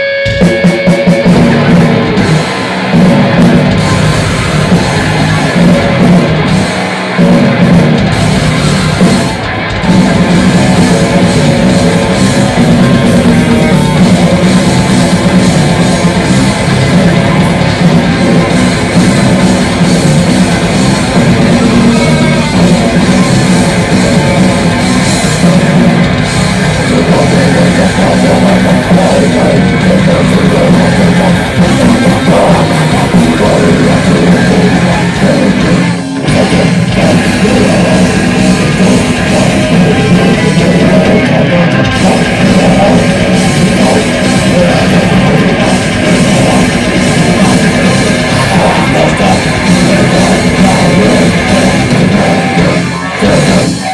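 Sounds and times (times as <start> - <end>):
bass guitar: 0.0 - 53.9
distorted electric guitar: 0.0 - 53.9
drum kit: 0.0 - 53.9.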